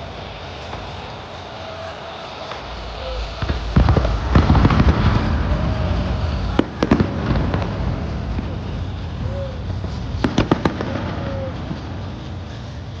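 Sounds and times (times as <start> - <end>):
distant firework bursts and crackle: 0.0 - 13.0
sharp firework bangs: 0.0 - 13.0.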